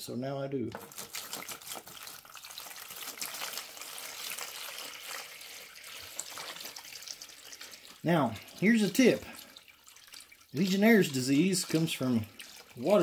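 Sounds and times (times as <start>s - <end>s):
water pouring into container: 0.8s - 13.0s.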